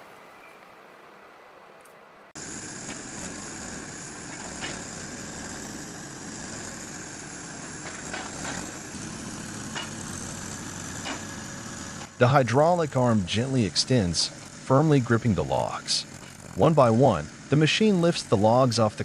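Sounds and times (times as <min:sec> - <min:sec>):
machine engine running: 0:02.4 - 0:19.0.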